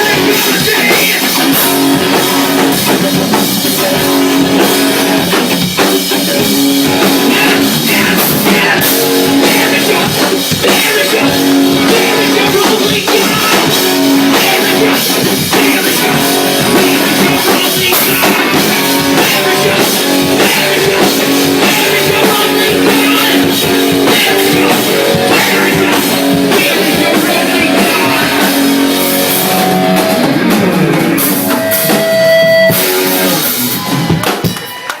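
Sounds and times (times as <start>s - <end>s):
drum kit: 0.0s - 35.0s
electric guitar riffing: 0.0s - 35.0s.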